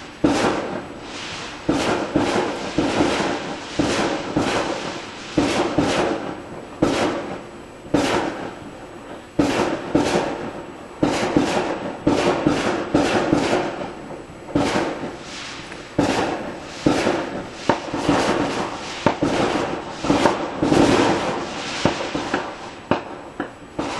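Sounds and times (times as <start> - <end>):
fireworks banging: 0.0 - 23.9.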